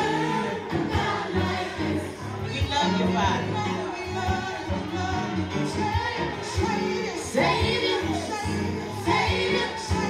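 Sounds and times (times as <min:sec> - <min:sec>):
gospel singing over a beat: 0:00.0 - 0:10.0.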